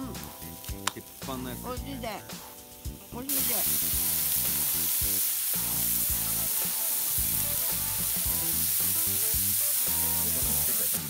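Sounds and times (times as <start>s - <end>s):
background music: 0.0s - 11.0s
food sizzling on griddle: 0.0s - 11.0s.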